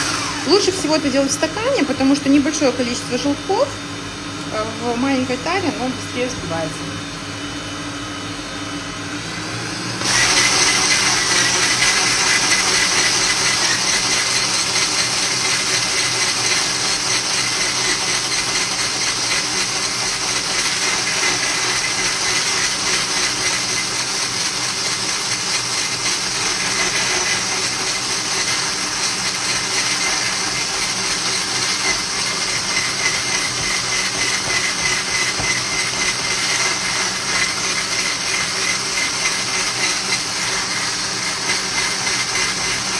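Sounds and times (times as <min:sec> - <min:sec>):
hand blender whining: 0:00.0 - 0:42.9.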